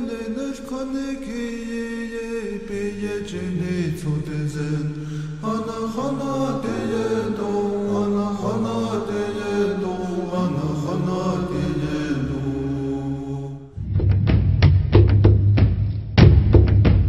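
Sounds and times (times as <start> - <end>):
slow vocal chant: 0.0 - 13.9.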